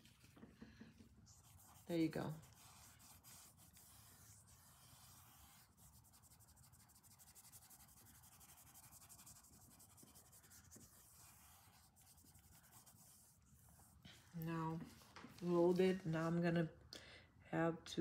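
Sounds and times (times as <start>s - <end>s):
paintbrush scratching on canvas: 1.0s - 15.9s.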